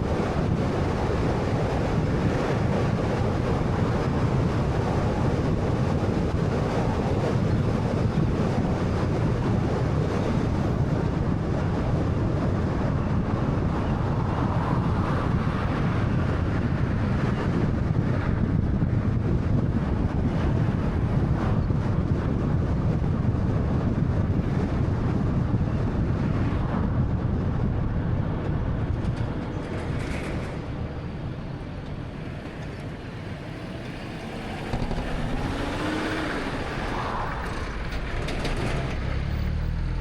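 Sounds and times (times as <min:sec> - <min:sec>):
car road and wind noise: 0:00.0 - 0:40.0.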